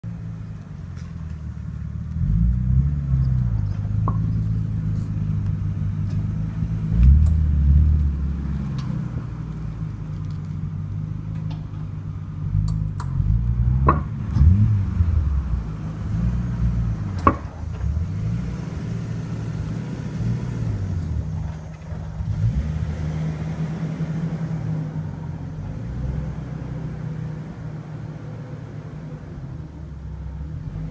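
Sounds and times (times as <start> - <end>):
car engine and road rumble: 0.0 - 30.9.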